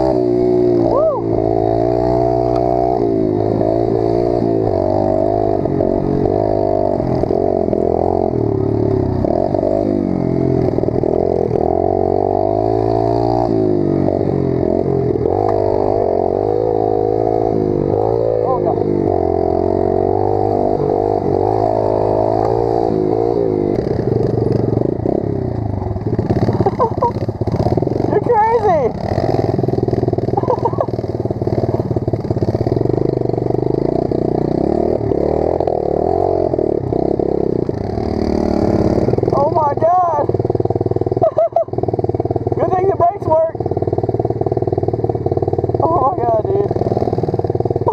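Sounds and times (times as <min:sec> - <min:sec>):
pit bike engine revving: 0:00.0 - 0:47.9.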